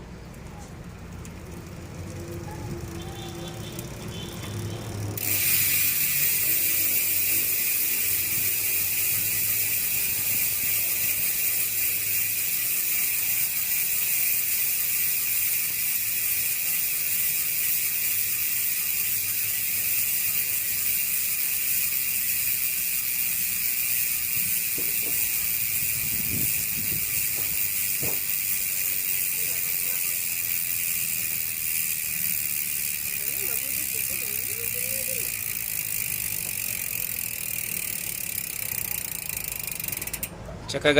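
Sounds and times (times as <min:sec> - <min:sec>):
bicycle hub freewheeling buzz: 0:00.0 - 0:40.9.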